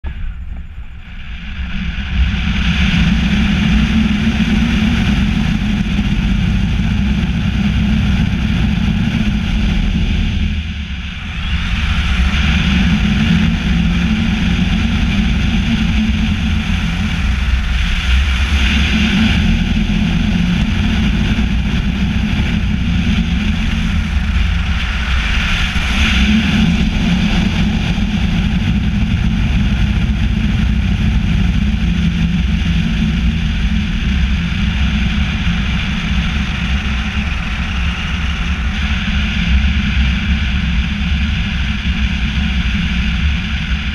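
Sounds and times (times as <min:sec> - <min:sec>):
rush of air over camera: 0:00.0 - 0:43.9.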